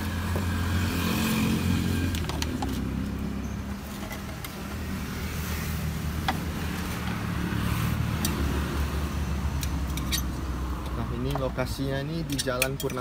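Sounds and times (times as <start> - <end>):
passing road traffic hum: 0.0 - 13.0.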